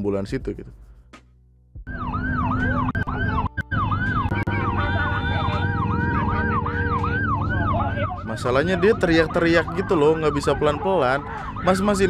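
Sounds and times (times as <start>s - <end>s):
ambulance siren yelping: 1.9s - 12.0s.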